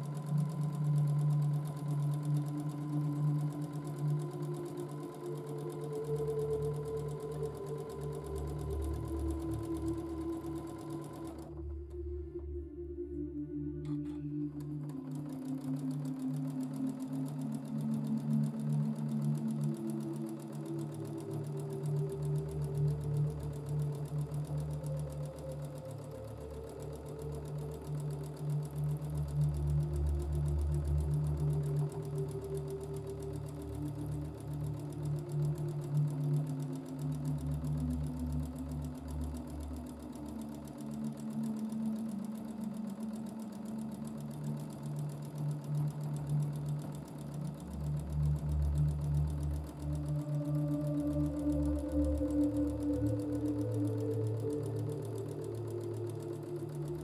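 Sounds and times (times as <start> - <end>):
sewing machine stitching: 0.0 - 12.0, 13.8 - 57.0.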